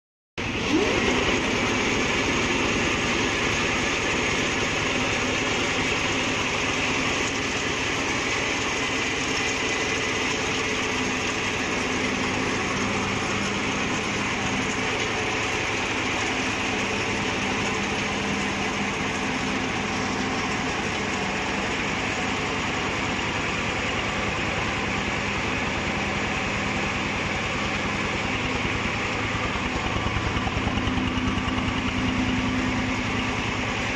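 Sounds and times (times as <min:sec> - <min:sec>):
combine harvester running: 0:00.4 - 0:33.9.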